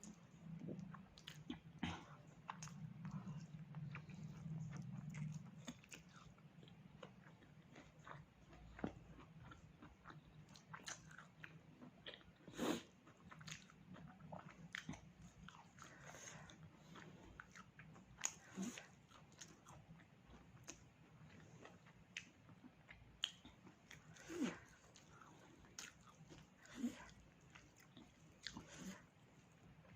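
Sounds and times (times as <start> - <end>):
person chewing with wet smacks: 0.0 - 29.9.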